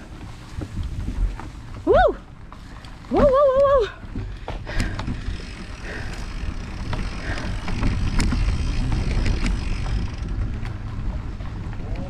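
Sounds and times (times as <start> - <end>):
bike clicks and rattles: 0.0 - 12.0
tyres rolling on dirt: 0.0 - 12.0.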